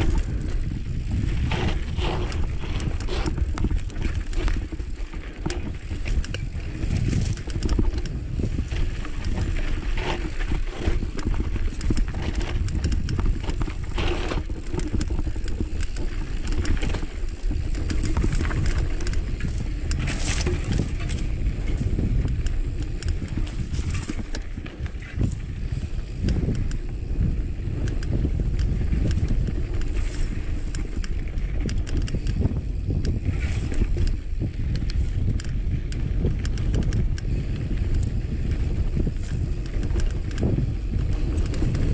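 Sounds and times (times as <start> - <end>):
tyres crunching over dirt and rocks: 0.0 - 36.7
bike rattling: 0.0 - 41.9.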